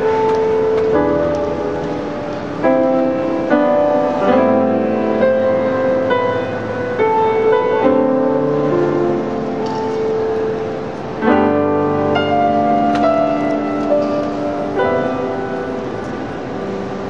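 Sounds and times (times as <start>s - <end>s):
grand piano: 0.0s - 17.0s.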